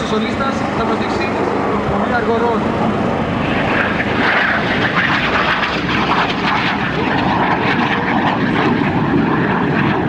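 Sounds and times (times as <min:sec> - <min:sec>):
jet engines flying overhead: 0:00.0 - 0:10.0.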